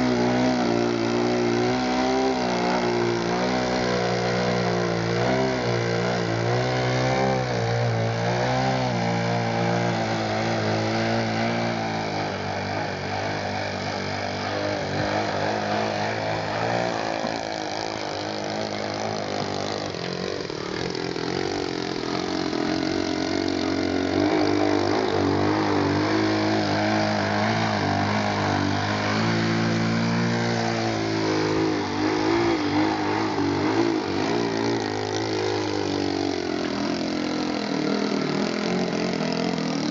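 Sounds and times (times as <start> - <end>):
model airplane engine: 0.0 - 39.9.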